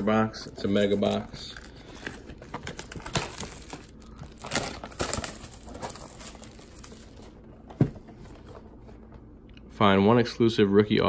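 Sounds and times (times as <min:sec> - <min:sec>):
packaging crinkling and rustling: 0:00.0 - 0:09.1.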